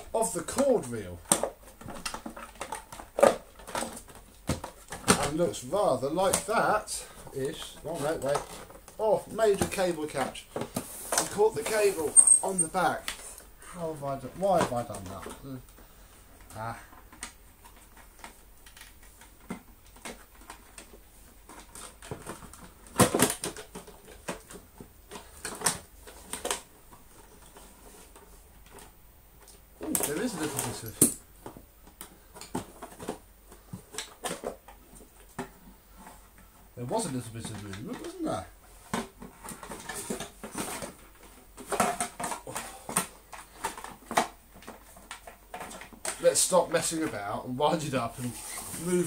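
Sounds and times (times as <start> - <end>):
clicks and knocks of plastic parts: 0.0 - 13.5, 14.1 - 47.5
parts clattering: 0.0 - 49.0.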